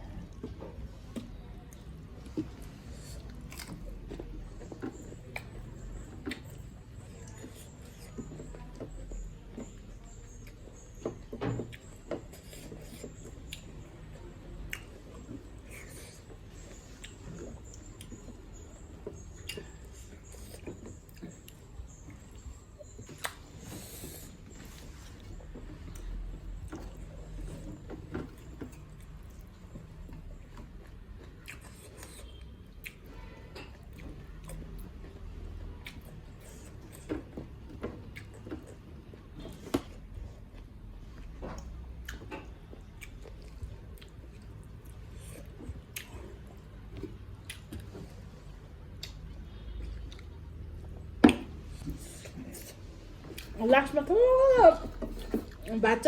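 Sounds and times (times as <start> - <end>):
person chewing food: 0.0 - 53.6, 54.9 - 55.7.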